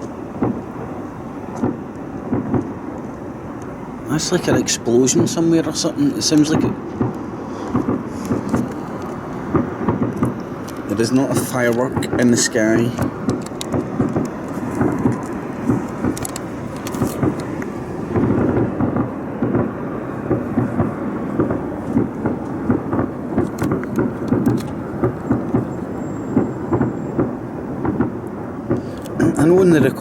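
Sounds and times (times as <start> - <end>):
sharp cracks: 0.0 - 0.8, 1.5 - 30.0
distant booms and bangs echoing: 0.2 - 29.3.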